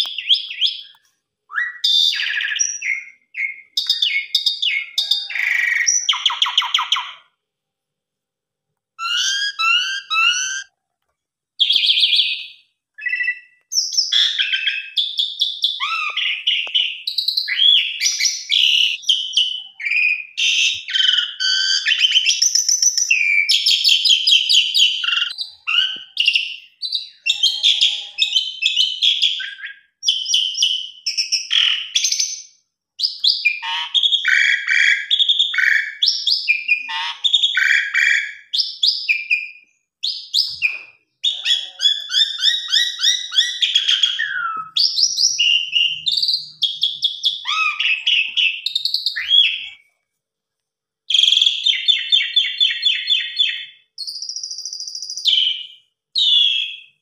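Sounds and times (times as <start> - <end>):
starling singing trills and whistles: 0.0 - 7.3, 9.0 - 10.7, 11.6 - 49.8, 51.1 - 57.0.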